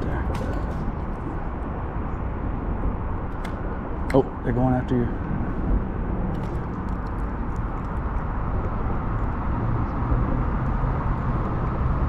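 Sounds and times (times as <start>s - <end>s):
low outdoor background noise: 0.0s - 12.0s.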